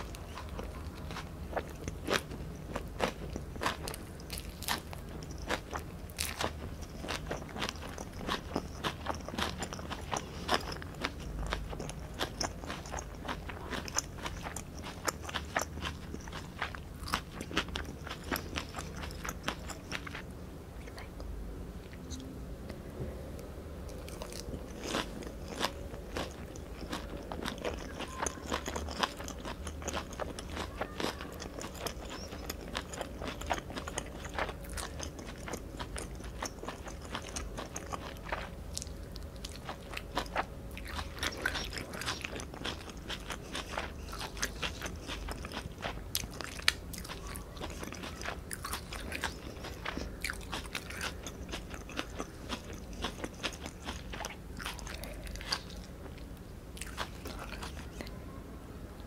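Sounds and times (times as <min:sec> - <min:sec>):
chewing with crunches: 0:00.0 - 0:22.8, 0:23.8 - 0:58.2.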